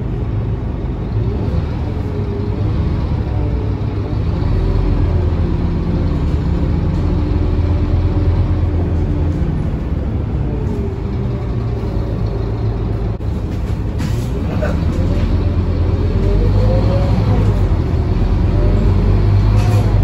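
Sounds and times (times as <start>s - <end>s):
bus diesel engine drone: 0.0s - 20.0s.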